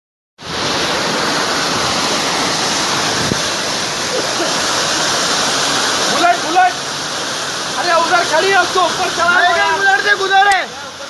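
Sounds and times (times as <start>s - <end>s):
floodwater rushing: 0.4s - 11.0s.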